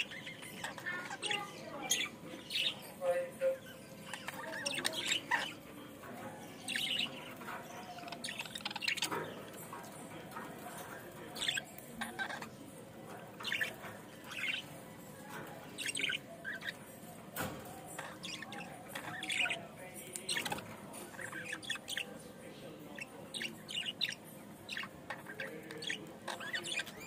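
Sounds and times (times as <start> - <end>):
budgerigars chirping: 0.0 - 27.0.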